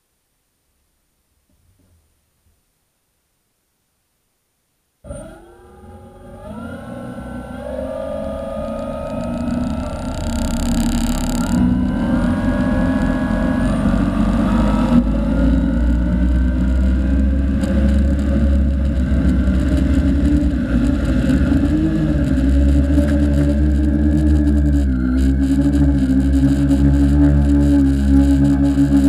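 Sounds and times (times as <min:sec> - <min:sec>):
electric motors humming and whining: 0:05.1 - 0:29.0.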